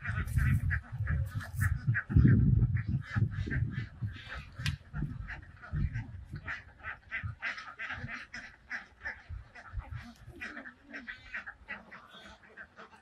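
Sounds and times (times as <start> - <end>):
waterfowl chattering: 0.0 - 13.0.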